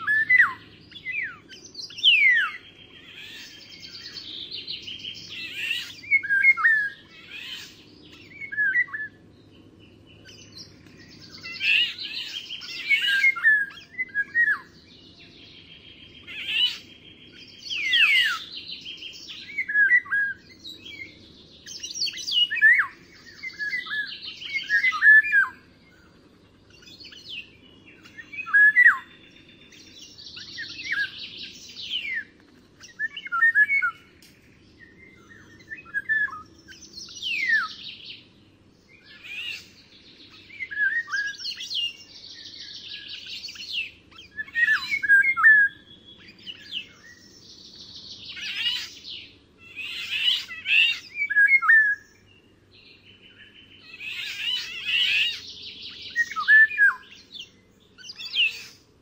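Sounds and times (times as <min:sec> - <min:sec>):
wild birds singing: 0:00.0 - 0:59.0.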